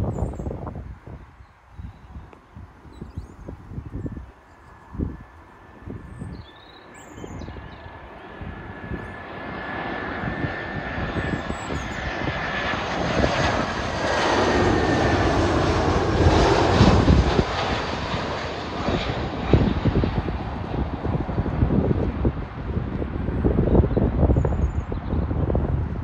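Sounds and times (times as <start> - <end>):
jet engines passing overhead: 0.0 - 26.0
wind buffeting microphone: 0.0 - 26.0.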